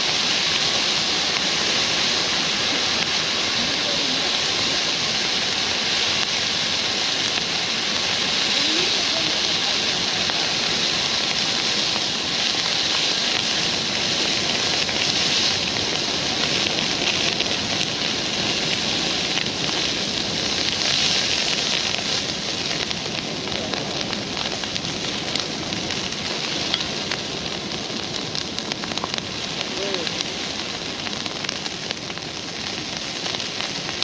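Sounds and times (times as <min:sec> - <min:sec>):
bonfire rushing roar: 0:00.0 - 0:34.0.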